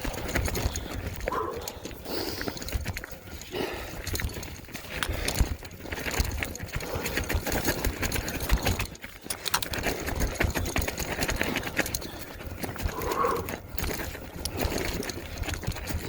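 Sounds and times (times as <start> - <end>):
bike crunching over gravel: 0.0 - 16.0.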